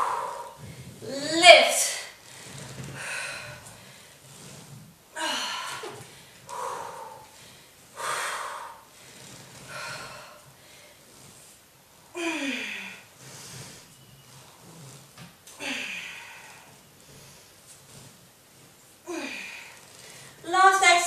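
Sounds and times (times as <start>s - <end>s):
woman breathing heavily: 0.0s - 14.0s, 14.6s - 20.5s.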